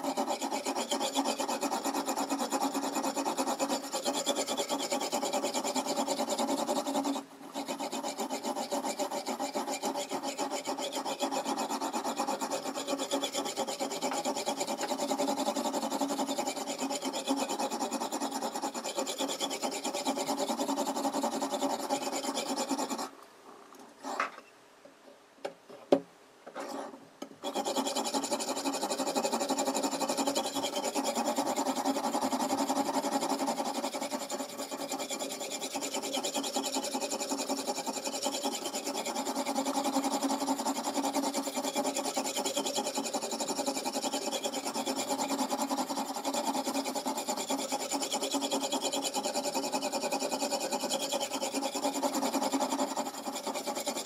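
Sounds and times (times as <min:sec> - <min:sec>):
whetstone rasping on knife edge: 0:00.0 - 0:23.1, 0:26.6 - 0:54.0.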